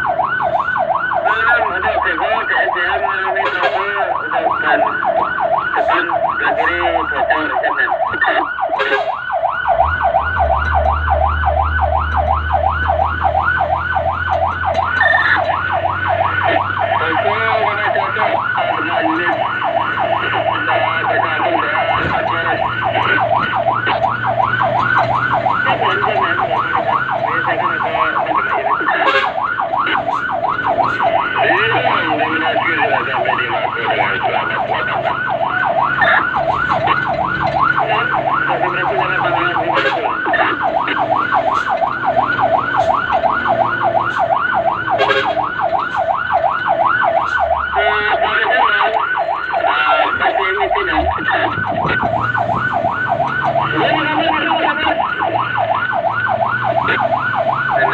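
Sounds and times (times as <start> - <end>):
fire truck siren yelping: 0.0 - 57.9
truck engine accelerating: 0.0 - 57.9.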